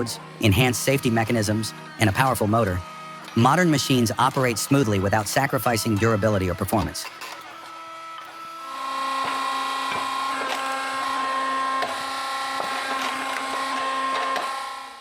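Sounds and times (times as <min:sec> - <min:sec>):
wood splitter motor humming: 0:00.0 - 0:15.0.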